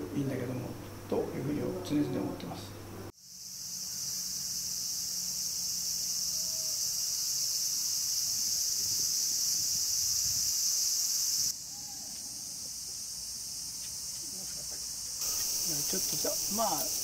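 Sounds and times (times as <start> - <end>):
cicadas buzzing: 0.1 - 17.0.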